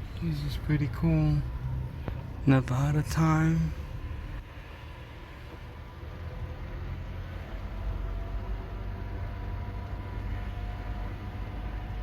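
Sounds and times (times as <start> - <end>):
pickup engine and road noise: 0.0 - 12.0.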